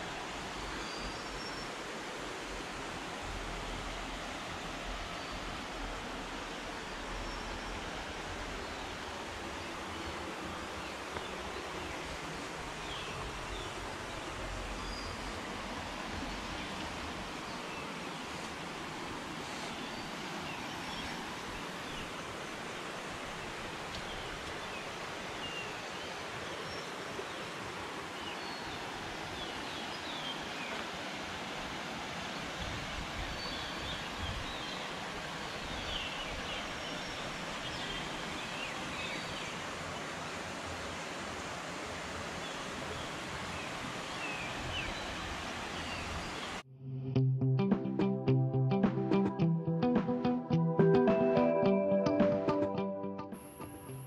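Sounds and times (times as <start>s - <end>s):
stream water rushing: 0.0s - 46.6s.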